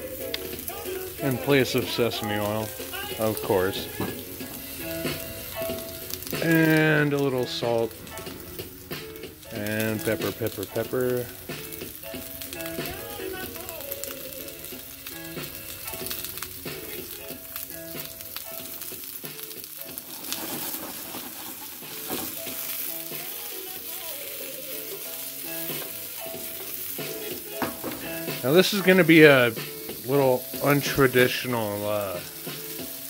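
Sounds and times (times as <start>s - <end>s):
peppers sizzling in oil: 0.0s - 33.0s
soft background music: 0.0s - 33.0s.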